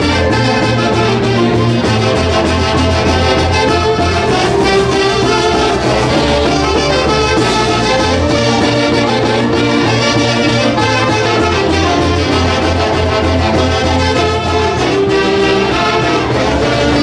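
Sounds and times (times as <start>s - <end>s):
folk orchestra playing: 0.0s - 17.0s
horns playing melody: 0.0s - 17.0s.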